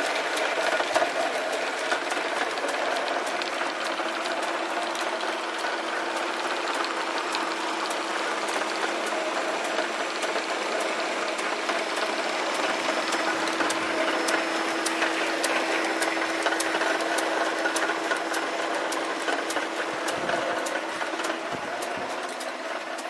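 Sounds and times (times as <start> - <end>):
metal lathe whirring: 0.0 - 23.0.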